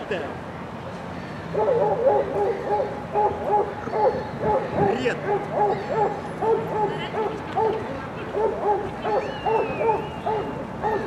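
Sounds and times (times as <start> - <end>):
dog giving high hooting barks: 1.6 - 11.0.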